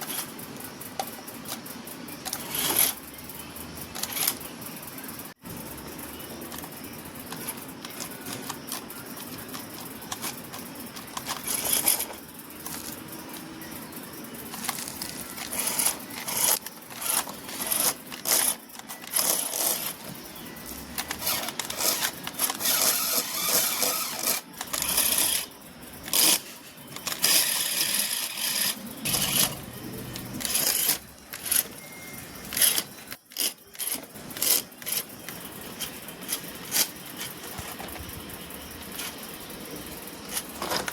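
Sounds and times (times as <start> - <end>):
rc vehicles clattering over dirt: 0.0 - 4.5, 5.2 - 40.9.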